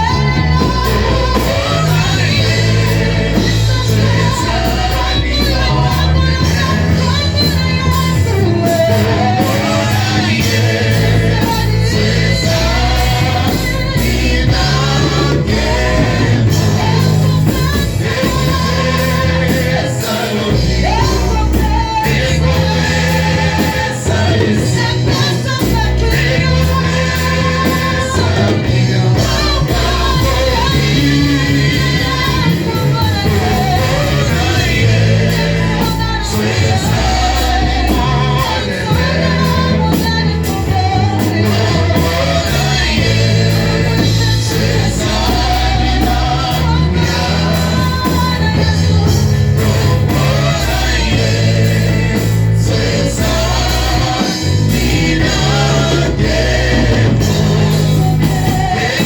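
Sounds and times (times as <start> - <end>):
band accompaniment: 0.0 - 59.0
voices singing gospel song: 0.0 - 59.0.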